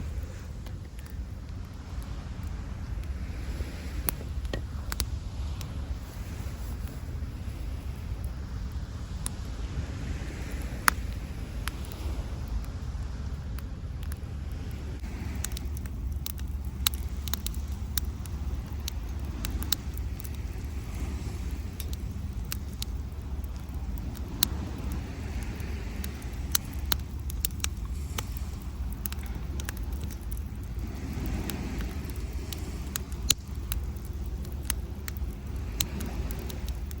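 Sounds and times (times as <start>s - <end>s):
campfire crackling and popping: 0.0s - 37.0s
surf rumble: 0.0s - 37.0s
waves washing up beach: 0.0s - 37.0s.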